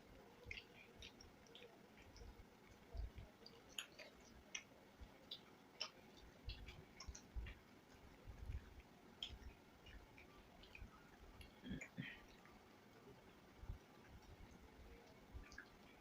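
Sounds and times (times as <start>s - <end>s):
people chewing: 0.0s - 16.0s.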